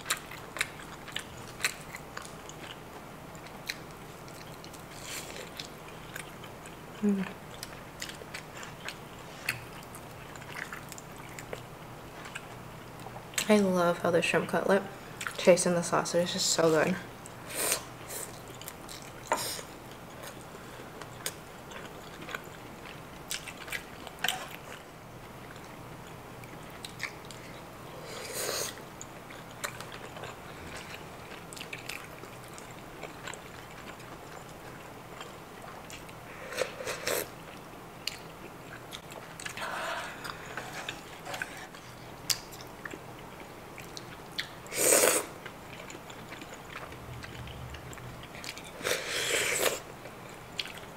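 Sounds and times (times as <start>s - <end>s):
close chewing: 0.0s - 13.5s, 18.2s - 27.8s, 28.7s - 44.6s, 45.4s - 48.9s, 49.6s - 50.9s.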